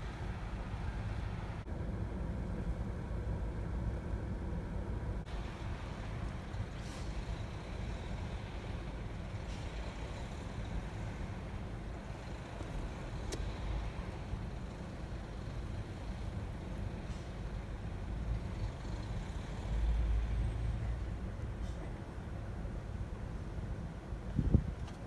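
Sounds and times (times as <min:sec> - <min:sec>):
vehicle engine idling: 0:00.6 - 0:21.9.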